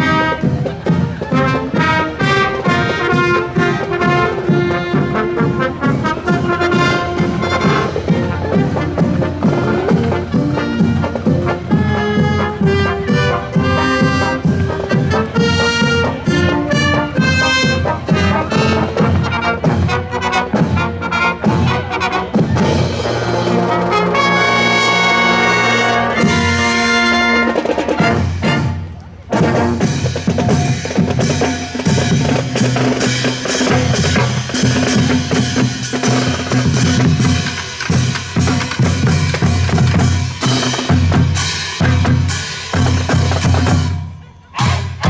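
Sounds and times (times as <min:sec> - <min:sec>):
marching band brass: 0:00.0 - 0:45.0
marching snare and bass drums: 0:00.0 - 0:45.0.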